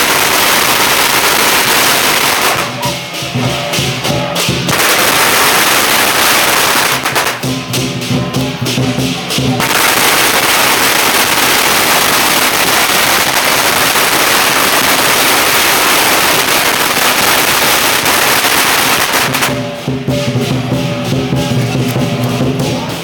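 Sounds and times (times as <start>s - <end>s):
drum and cymbal strokes: 0.0s - 23.0s
firecrackers crackling: 0.0s - 23.0s.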